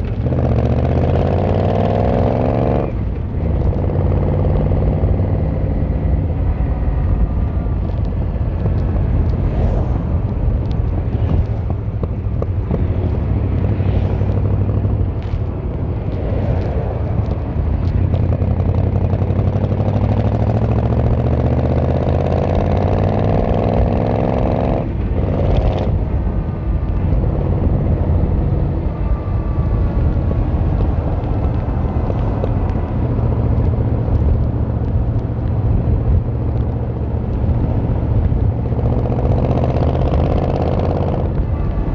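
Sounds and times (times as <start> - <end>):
motorcycle engine and exhaust: 0.0 - 41.9.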